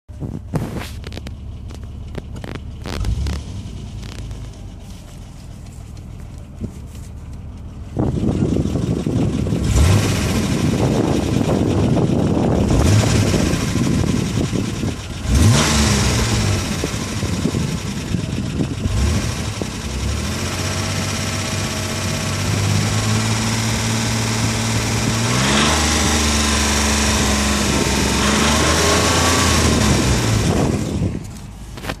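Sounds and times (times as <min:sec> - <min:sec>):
car engine revving: 0:00.2 - 0:05.0, 0:07.9 - 0:32.0.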